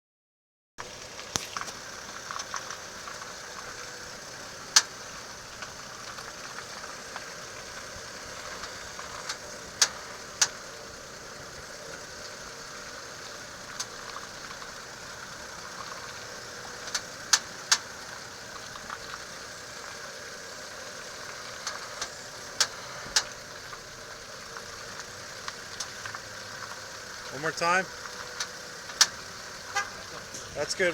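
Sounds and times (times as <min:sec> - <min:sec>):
car engine idling: 0:00.8 - 0:30.9.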